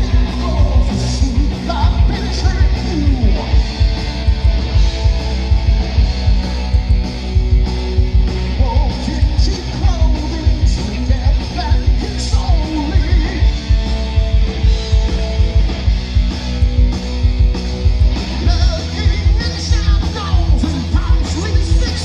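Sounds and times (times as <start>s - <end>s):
hard rock band playing live: 0.0s - 22.0s.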